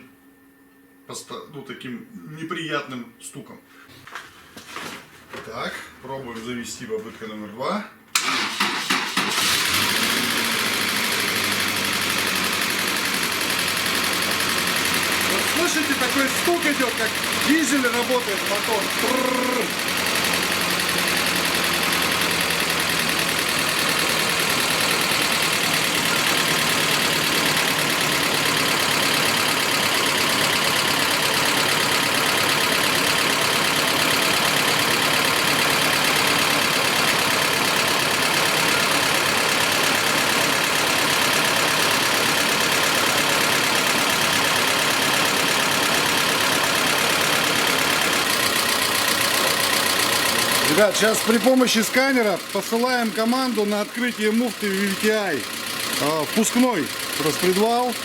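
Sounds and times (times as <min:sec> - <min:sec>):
car engine idling with knock: 0:09.8 - 0:58.0.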